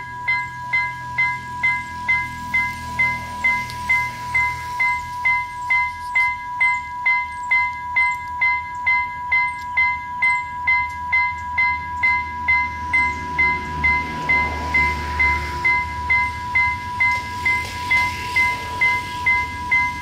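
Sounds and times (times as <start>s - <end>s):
railway crossing warning bell: 0.0s - 20.0s
steady electronic tone: 0.0s - 20.0s
train rumble: 0.0s - 20.0s.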